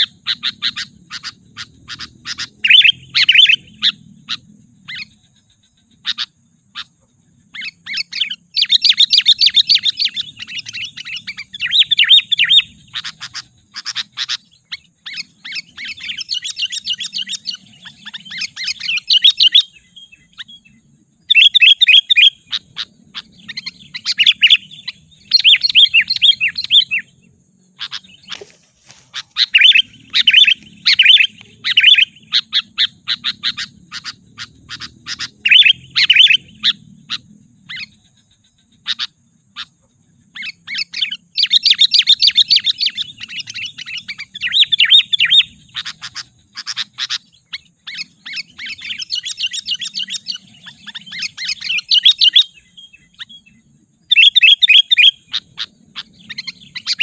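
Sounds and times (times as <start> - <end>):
bulbul chattering calls: 0.0 - 57.0.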